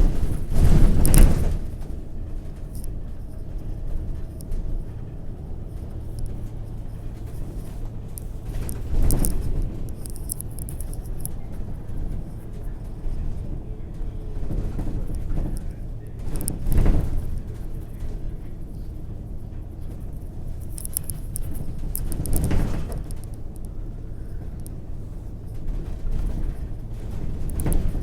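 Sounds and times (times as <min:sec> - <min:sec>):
motor vehicle rumble: 0:00.0 - 0:28.0.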